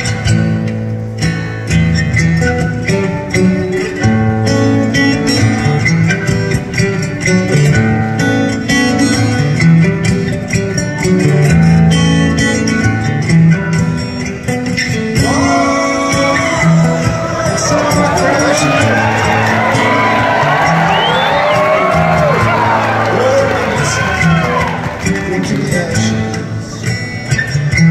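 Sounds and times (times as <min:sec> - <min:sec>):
acoustic guitar through pa: 0:00.0 - 0:27.9.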